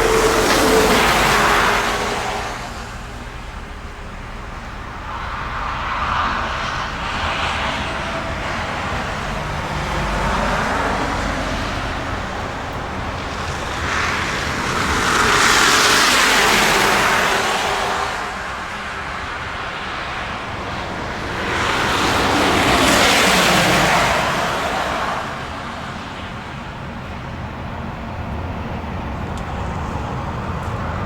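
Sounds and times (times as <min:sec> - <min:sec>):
vehicles passing on road: 0:00.0 - 0:31.0.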